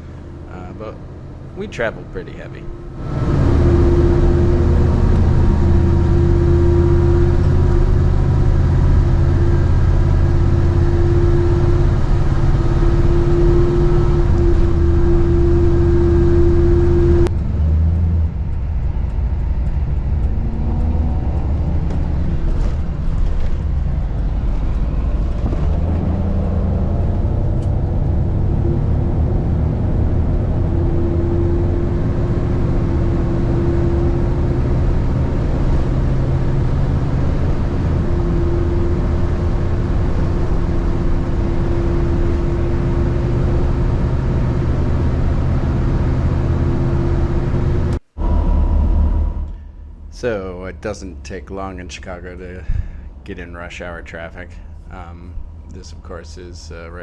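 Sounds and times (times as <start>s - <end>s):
constant whine: 0.0s - 57.0s
engine drone: 0.0s - 57.0s
road noise: 0.0s - 57.0s.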